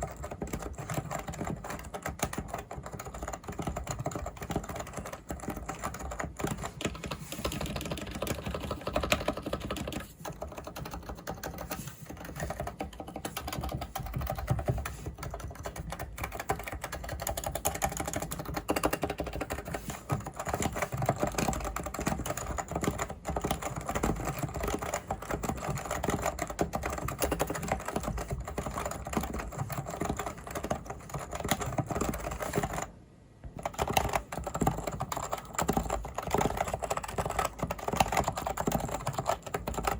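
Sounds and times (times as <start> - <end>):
fast typing on keyboard: 0.0 - 32.9, 33.5 - 39.9.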